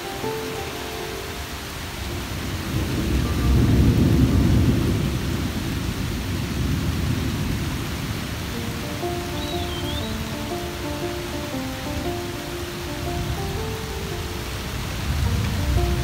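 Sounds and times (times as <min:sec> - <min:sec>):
rain hiss: 0:00.0 - 0:16.0
thunder rolling: 0:01.8 - 0:16.0.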